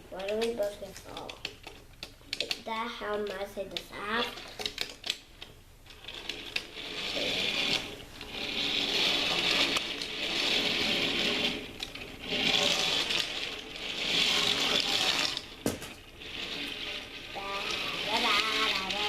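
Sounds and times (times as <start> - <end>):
plastic toy trains clattering: 0.0 - 19.0.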